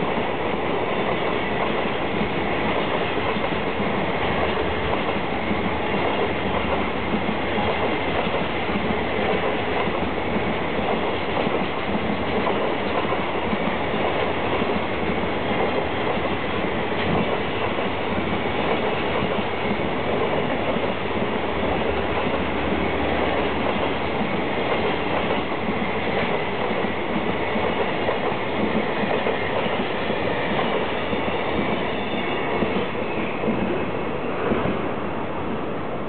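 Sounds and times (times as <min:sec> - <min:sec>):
train wheels clattering on rails: 0:00.0 - 0:35.7.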